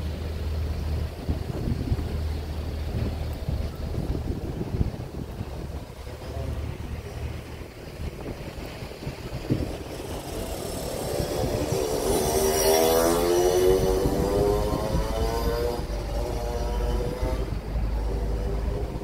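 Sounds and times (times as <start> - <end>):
low road rumble: 0.0 - 19.0
vehicle engine hum: 0.0 - 19.0.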